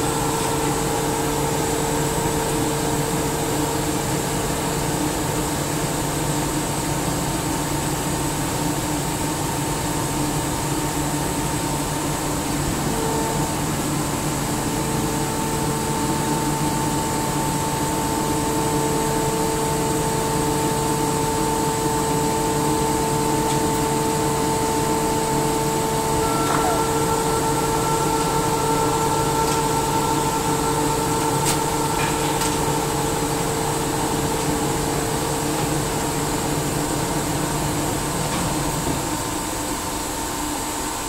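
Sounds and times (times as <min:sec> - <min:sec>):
air compressor hum and whine: 0:00.0 - 0:41.0.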